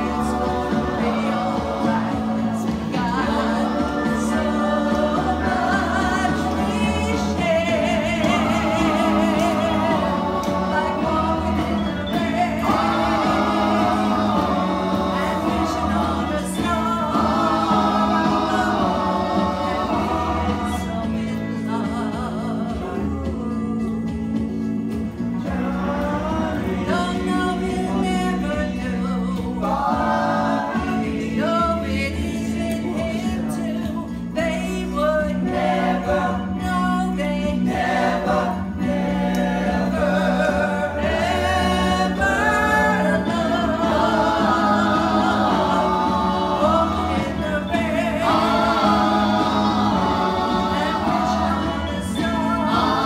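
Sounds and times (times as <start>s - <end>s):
group singing in harmony: 0.0s - 53.0s.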